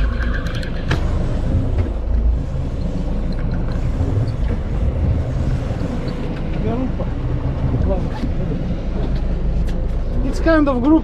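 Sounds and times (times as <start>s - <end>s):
low rumble of wind and sea: 0.0s - 11.0s.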